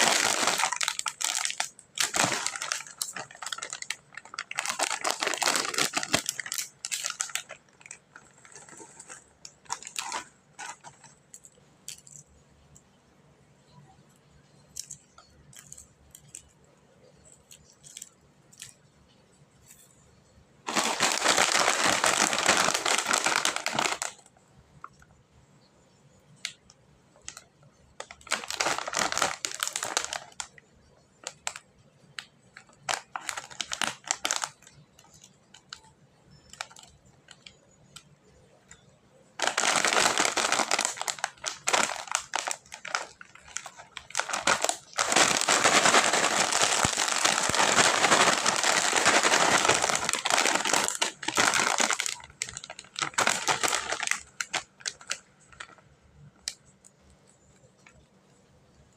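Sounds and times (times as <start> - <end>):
plastic wrappers crinkling: 0.0 - 12.3, 14.3 - 18.9, 19.6 - 25.1, 26.4 - 58.0.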